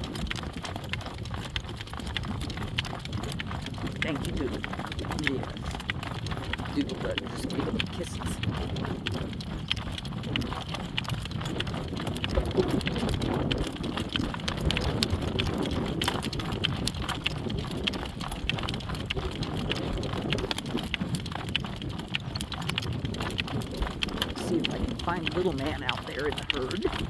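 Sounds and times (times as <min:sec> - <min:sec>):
horse hooves clip-clopping: 0:00.0 - 0:27.0
wind rumbling on microphone: 0:00.0 - 0:27.0.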